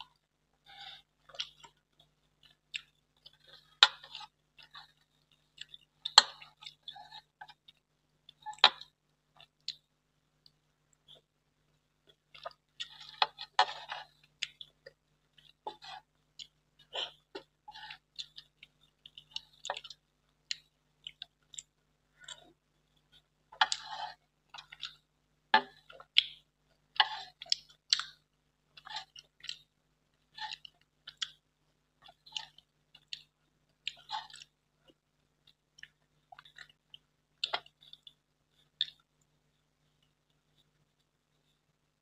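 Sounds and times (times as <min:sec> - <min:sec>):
wet smacking and chewing: 0:00.8 - 0:11.3, 0:12.1 - 0:31.4, 0:32.0 - 0:39.2.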